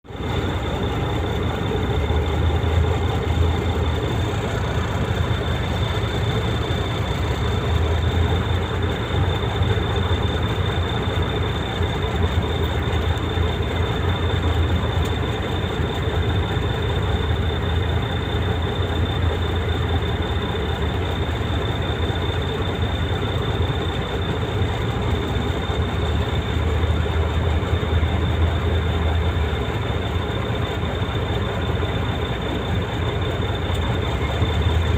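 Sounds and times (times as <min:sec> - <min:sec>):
truck engine deep rumble: 0:00.0 - 0:34.9.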